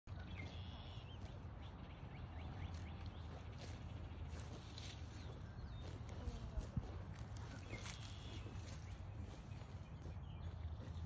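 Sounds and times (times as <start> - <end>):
cattle tearing grass: 0.1 - 11.0
small birds chirping faintly: 0.1 - 11.0.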